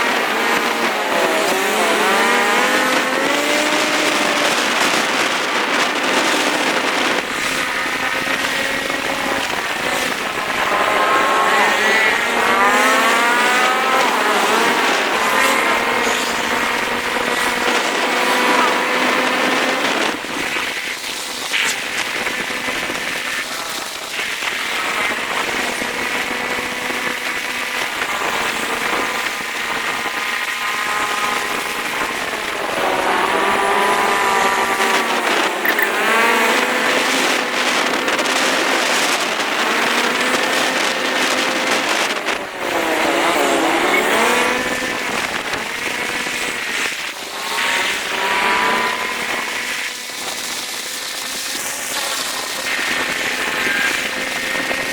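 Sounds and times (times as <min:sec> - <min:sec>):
motorcycle engine revving: 0:00.0 - 0:54.9
road and traffic noise: 0:00.0 - 0:54.9.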